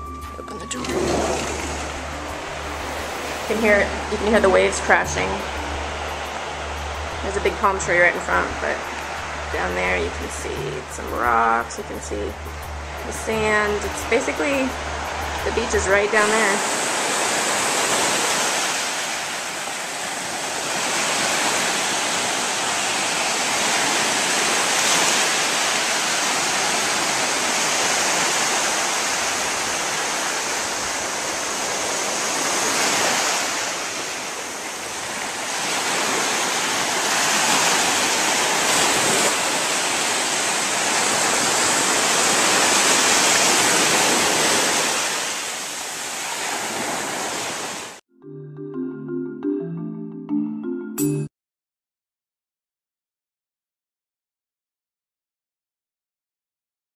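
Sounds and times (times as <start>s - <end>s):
ocean waves breaking on beach: 0.8s - 48.0s.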